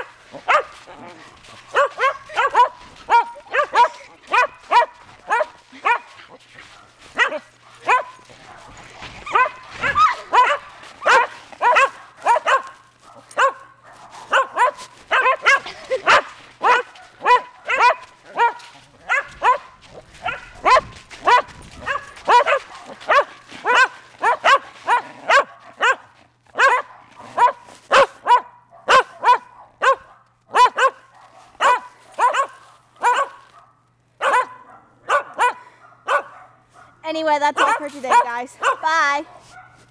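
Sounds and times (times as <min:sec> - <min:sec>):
dog barking high-pitched: 0:00.0 - 0:00.8, 0:01.7 - 0:06.1, 0:06.8 - 0:39.9.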